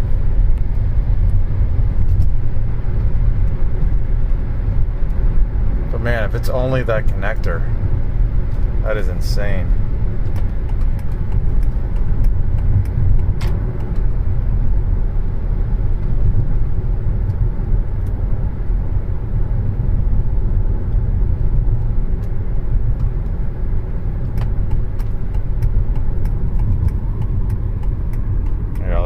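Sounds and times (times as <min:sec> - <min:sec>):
engine and road rumble: 0:00.0 - 0:29.0.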